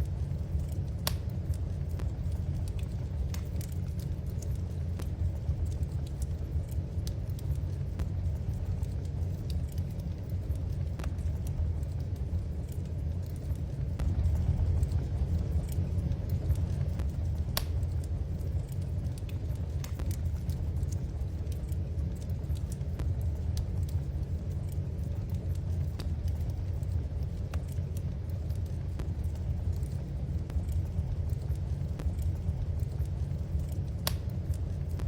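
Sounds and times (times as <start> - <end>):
fire crackling and popping: 0.0 - 35.0
fire rumbling: 0.0 - 35.0.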